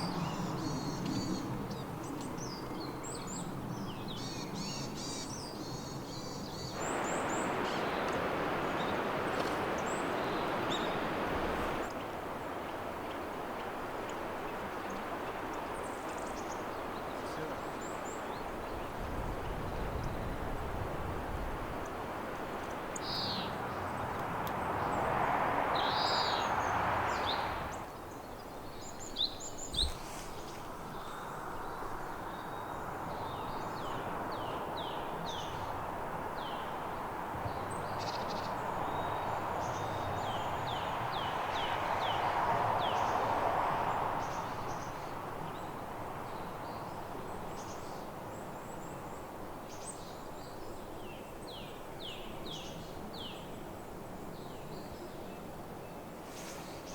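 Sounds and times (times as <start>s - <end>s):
small songbirds calling: 0.0s - 20.7s, 21.6s - 56.9s
rushing hiss of wind or water: 0.0s - 56.9s.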